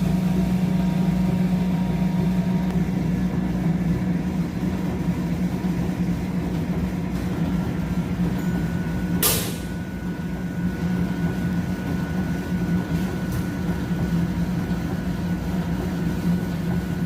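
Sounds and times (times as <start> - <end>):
mill machinery humming: 0.0 - 17.0.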